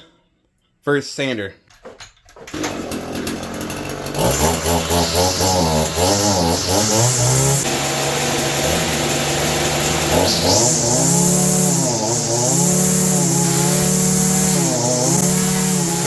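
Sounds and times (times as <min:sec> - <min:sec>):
string trimmer running: 0:02.4 - 0:16.0
power sander running: 0:02.5 - 0:16.0.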